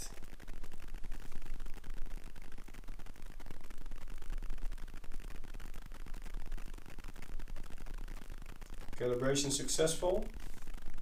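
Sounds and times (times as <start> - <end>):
steady hiss with crackle: 0.0 - 11.0.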